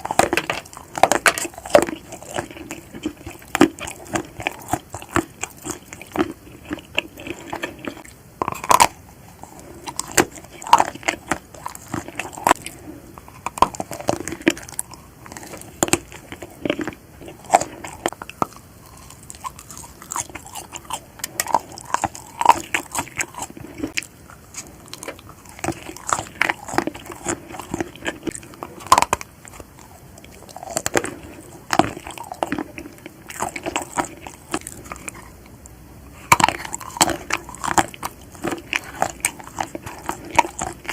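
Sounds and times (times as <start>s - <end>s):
chocolate shell crunching: 0.0s - 40.9s
soft chewing: 0.0s - 40.9s.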